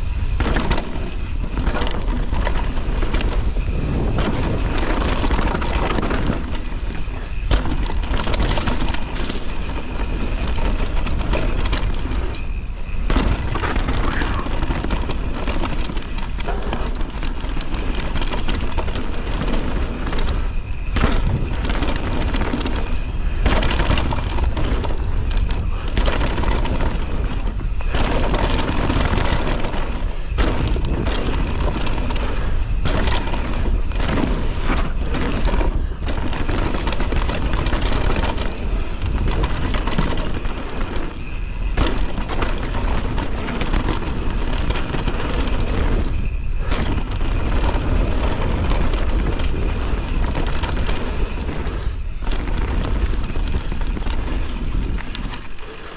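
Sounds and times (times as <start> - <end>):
bike rattling over bumps: 0.0 - 55.9
tyres crunching over stones: 0.0 - 55.9
wind rumble on microphone: 0.0 - 55.9.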